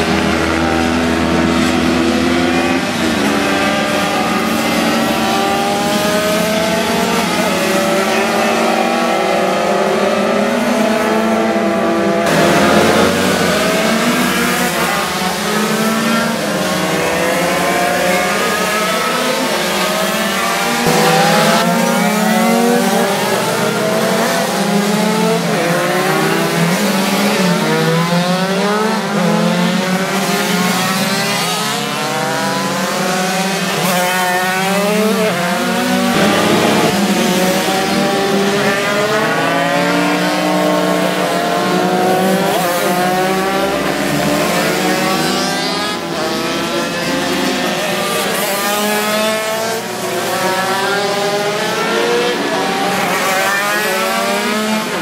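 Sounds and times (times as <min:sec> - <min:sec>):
moped engines whining: 0:00.0 - 0:55.0.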